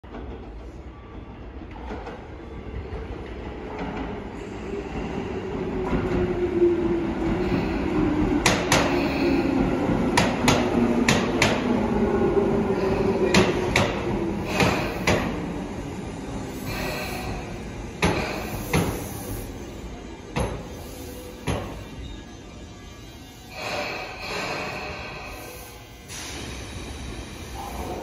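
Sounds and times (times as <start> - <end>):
electric train slowing: 0.1 - 28.0.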